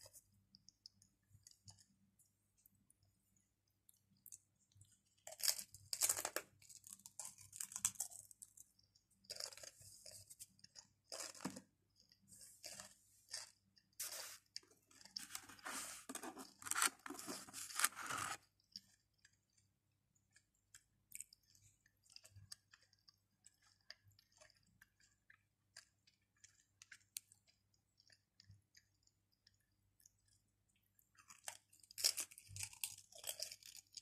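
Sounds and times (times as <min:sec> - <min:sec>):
crisps crunching while chewed: 0:03.9 - 0:34.0.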